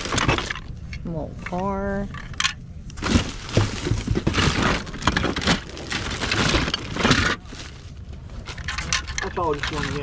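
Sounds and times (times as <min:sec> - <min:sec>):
plastic bags rustling: 0:00.0 - 0:00.9, 0:02.1 - 0:10.0.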